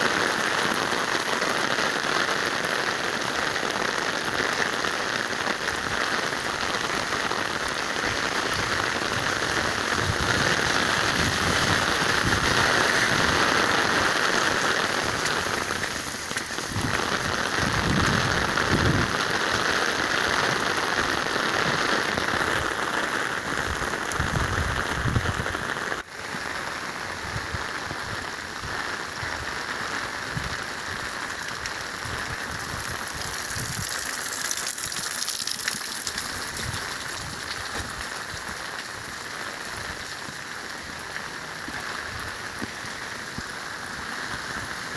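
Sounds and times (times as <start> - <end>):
rain pattering on pavement and cars: 0.0 - 44.9.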